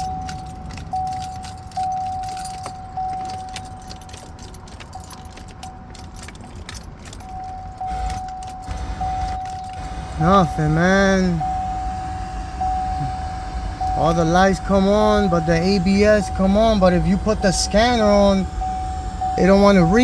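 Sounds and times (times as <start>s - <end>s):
keys jangling: 0.0s - 11.6s, 13.7s - 20.0s
dashboard warning chime: 0.0s - 20.0s.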